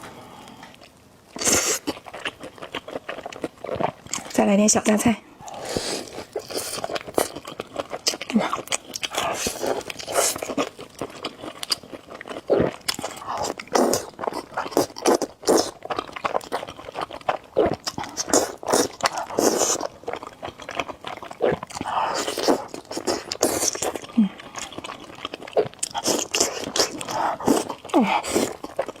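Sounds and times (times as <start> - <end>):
crunchy bites and wet chewing: 5.4 - 29.0.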